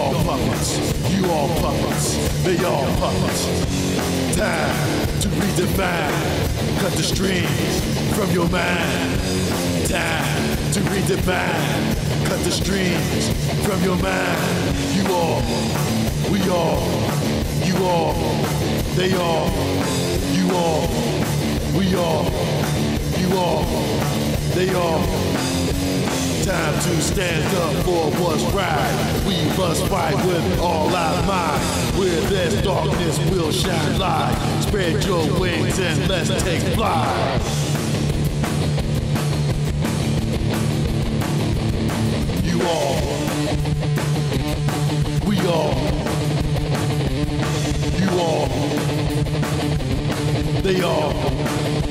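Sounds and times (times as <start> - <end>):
instrumental rock music: 0.0 - 51.9.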